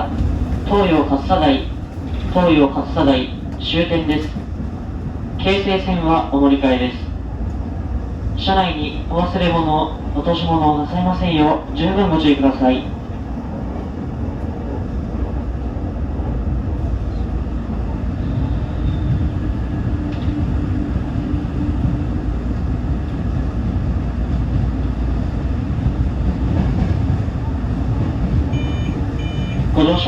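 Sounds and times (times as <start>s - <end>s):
train motor hum: 0.0s - 30.0s
train wheels rumbling on rail: 0.0s - 30.0s.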